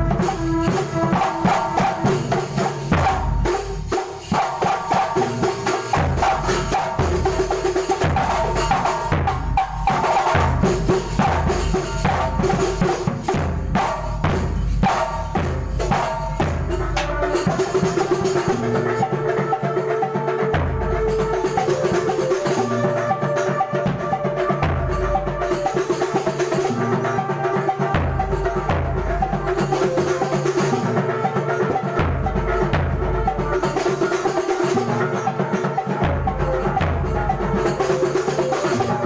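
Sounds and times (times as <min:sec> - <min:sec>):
frame drums and bass drum: 0:00.0 - 0:39.0.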